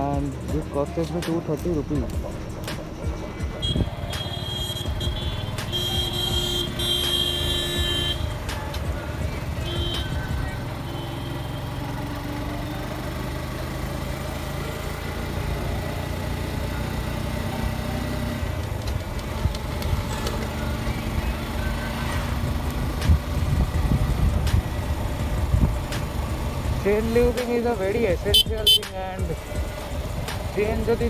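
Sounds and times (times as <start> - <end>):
motorcycle engine idling: 0.0 - 31.0
road traffic: 0.0 - 31.0.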